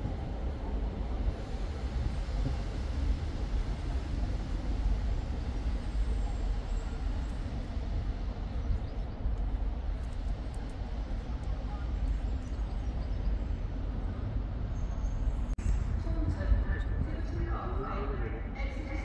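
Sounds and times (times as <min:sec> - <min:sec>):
train rumbling by: 0:00.0 - 0:19.0.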